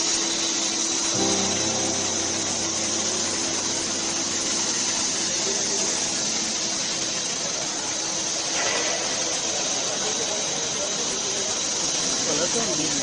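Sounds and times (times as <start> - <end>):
floor-cleaning machine hissing: 0.0 - 13.0.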